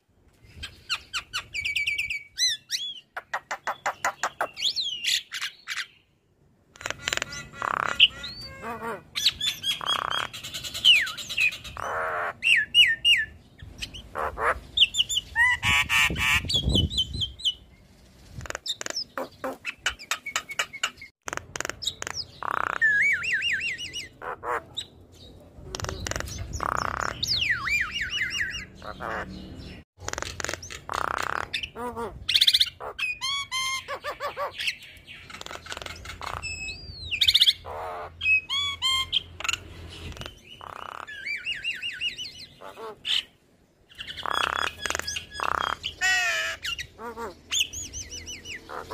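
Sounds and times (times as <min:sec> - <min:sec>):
bird chattering song: 0:00.4 - 0:48.9.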